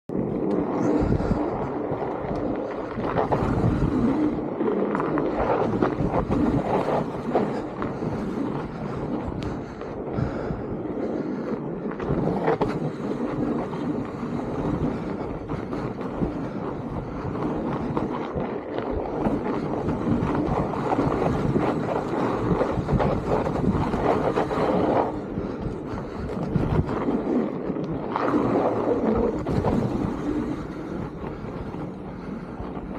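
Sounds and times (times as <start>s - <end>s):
bike riding rumble: 0.0s - 32.9s
wind buffeting microphone: 0.0s - 32.9s.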